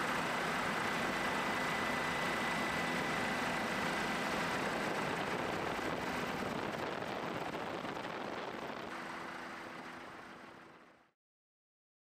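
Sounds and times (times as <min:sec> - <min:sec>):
helicopter engine in flight: 0:00.0 - 0:11.1.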